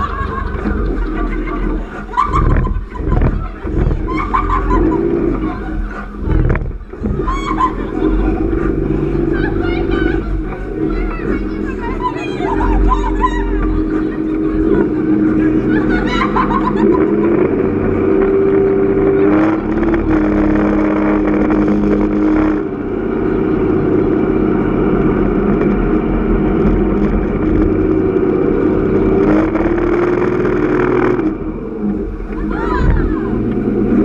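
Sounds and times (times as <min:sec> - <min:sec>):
speedboat engine running hard: 0:00.0 - 0:34.0.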